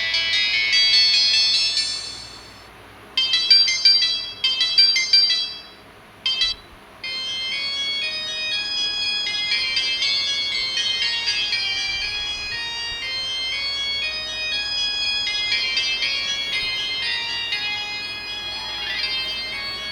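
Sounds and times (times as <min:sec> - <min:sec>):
mobile phone ringtones: 0:03.2 - 0:19.9.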